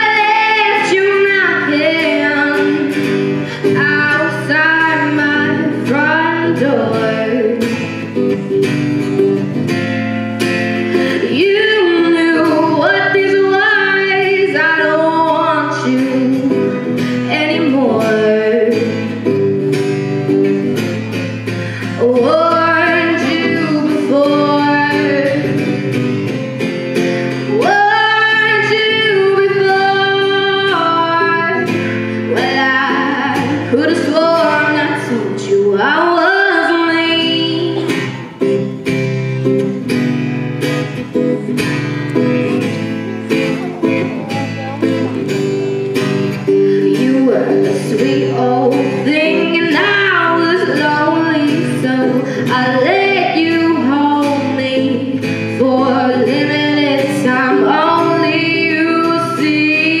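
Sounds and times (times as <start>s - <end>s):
woman singing: 0.0s - 8.8s, 10.9s - 21.1s, 21.8s - 38.7s, 41.2s - 60.0s
strummed acoustic guitar: 0.0s - 60.0s.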